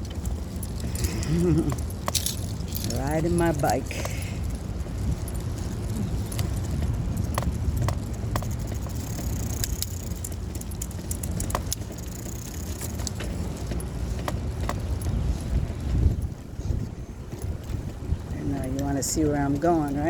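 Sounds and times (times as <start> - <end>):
light metallic rattles: 0.0 - 16.3
wind and tyres rumbling: 0.0 - 20.0.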